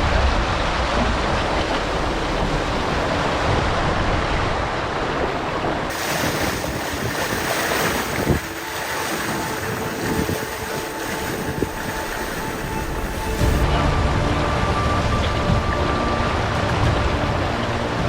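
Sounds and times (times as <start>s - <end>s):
water running along hull: 0.0s - 18.0s
wind buffeting microphone: 0.0s - 18.0s.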